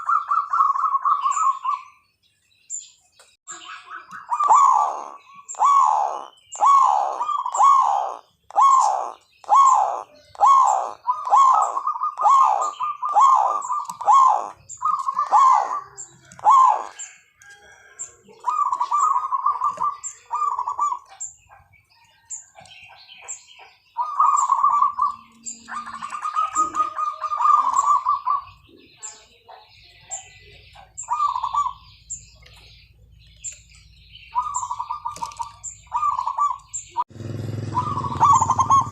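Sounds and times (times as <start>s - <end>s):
doves cooing: 0.0s - 2.0s, 3.8s - 38.9s
small birds chirping: 0.0s - 38.9s.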